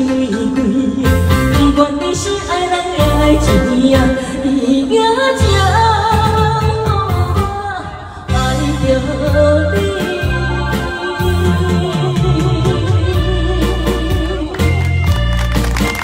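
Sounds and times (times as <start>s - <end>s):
pop karaoke backing track: 0.0s - 16.0s.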